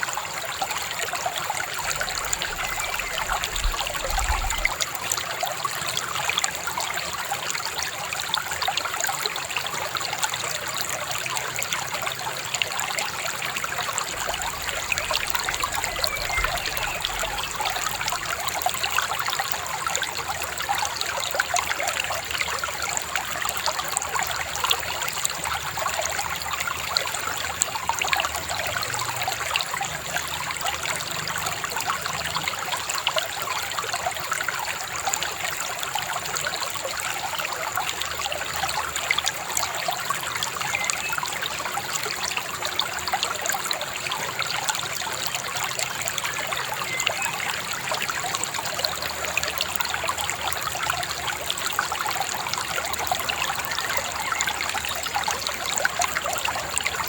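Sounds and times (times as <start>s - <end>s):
river babbling over stones: 0.0s - 57.0s.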